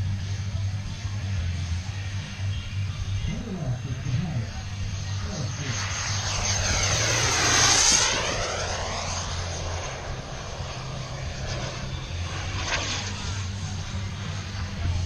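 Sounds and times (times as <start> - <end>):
model jet whine passing: 0.1 - 15.0.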